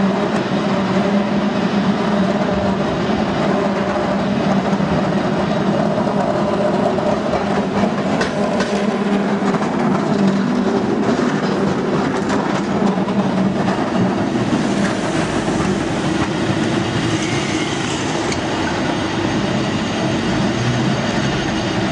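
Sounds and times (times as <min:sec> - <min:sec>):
cable car wheels rattling on rails: 0:00.0 - 0:21.9.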